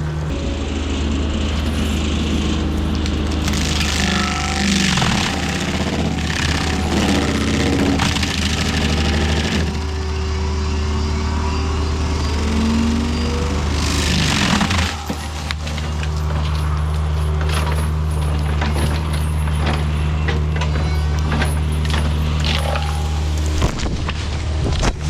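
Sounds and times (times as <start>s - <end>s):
mulcher grinding wood: 0.0s - 24.5s
diesel engine running under load: 0.0s - 25.0s.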